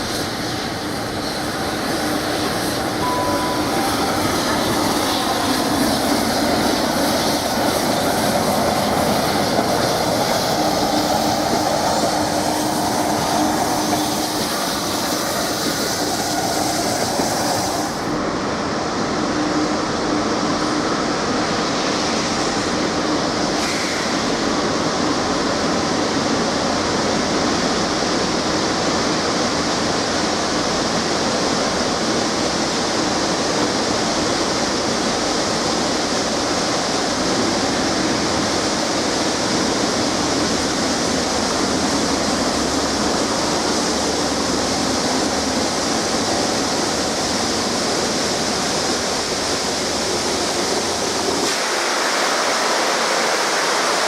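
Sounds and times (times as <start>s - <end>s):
steam locomotive hissing steam: 0.0s - 54.0s.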